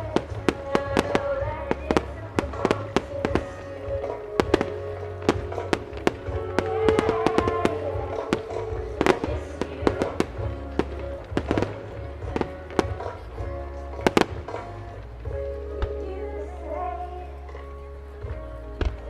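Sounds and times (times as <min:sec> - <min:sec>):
fireworks bursting: 0:00.0 - 0:16.1
music over loudspeakers with heavy bass: 0:00.0 - 0:19.0.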